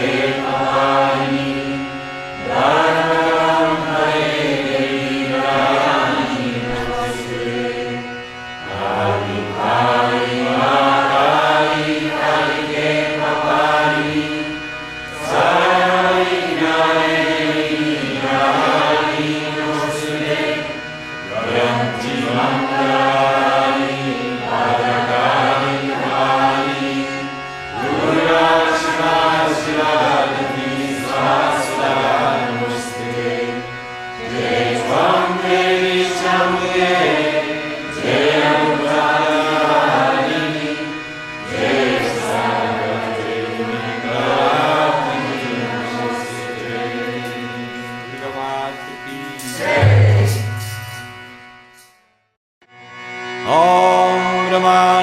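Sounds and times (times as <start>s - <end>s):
melodic chanting: 0.0s - 51.4s, 53.3s - 55.0s.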